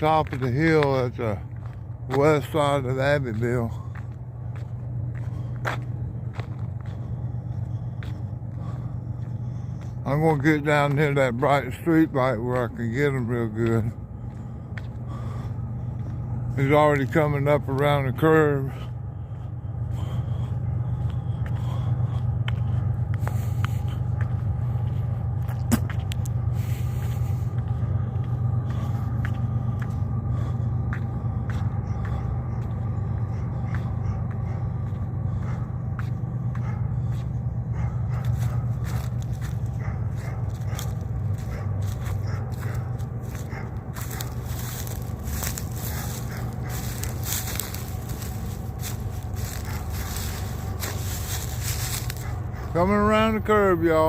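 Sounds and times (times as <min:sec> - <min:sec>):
diesel locomotives under load: 0:00.0 - 0:54.0.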